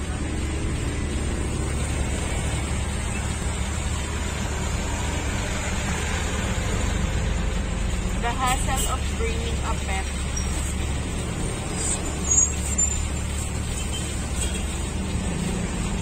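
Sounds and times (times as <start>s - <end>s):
low vehicle rumble with hiss: 0.0s - 16.0s.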